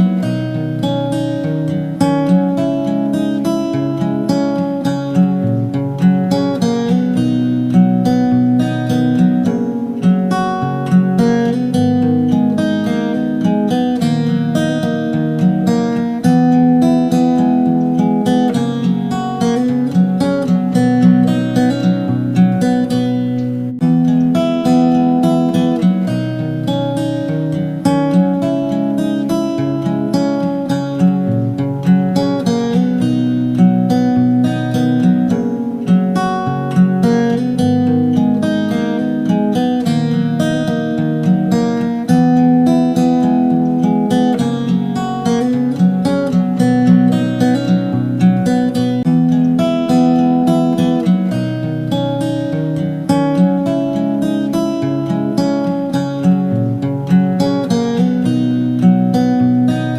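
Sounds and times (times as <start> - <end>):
acoustic guitar strummed: 0.0 - 59.9.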